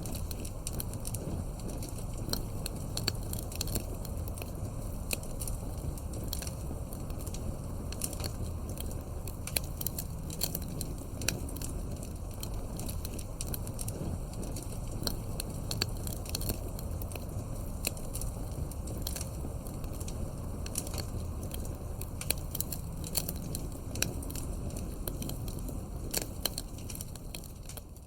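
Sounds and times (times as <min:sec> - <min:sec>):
burning logs crackling and popping: 0:00.0 - 0:28.0
rumble of flames: 0:00.0 - 0:28.0.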